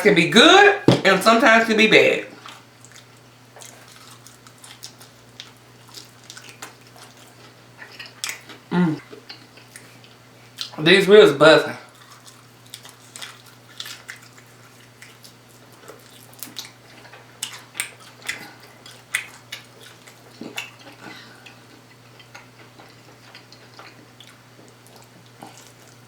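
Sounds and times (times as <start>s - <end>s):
faint steady hum: 0.0s - 26.0s
chewing with wet mouth clicks: 2.4s - 10.8s, 11.9s - 26.0s.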